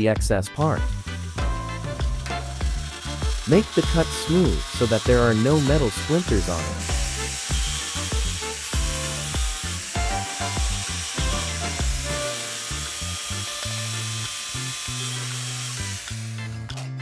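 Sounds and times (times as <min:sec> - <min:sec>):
background music with steady beat: 0:00.0 - 0:17.0
angle grinder cutting steel: 0:00.6 - 0:17.0.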